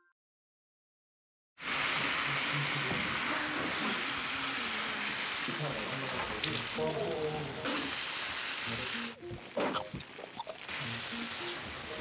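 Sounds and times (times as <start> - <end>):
chicken sizzling in hot pan: 1.6 - 12.0.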